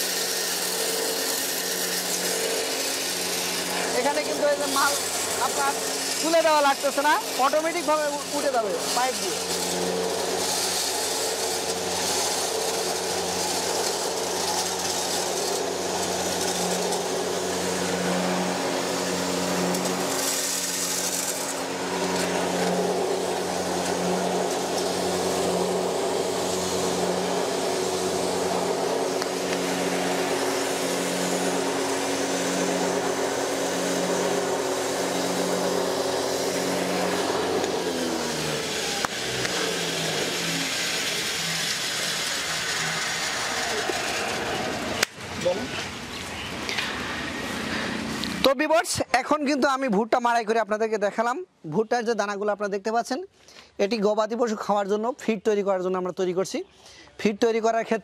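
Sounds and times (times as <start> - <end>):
grain grinder humming and grinding: 0.0 - 48.6.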